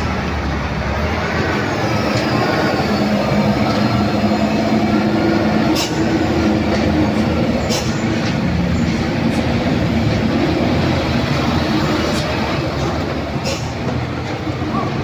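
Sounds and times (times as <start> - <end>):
diesel engine labouring: 0.0 - 15.0.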